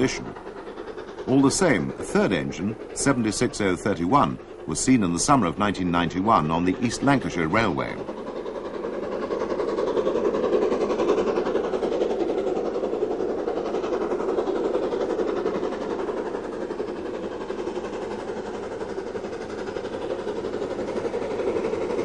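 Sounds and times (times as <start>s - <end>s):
steam locomotive running: 0.0s - 22.0s.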